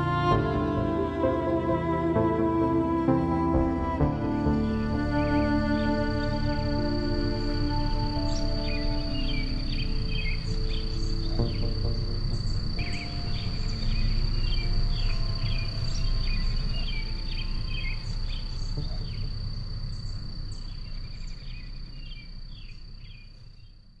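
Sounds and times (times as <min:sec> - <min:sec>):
low rumble: 0:00.0 - 0:19.9.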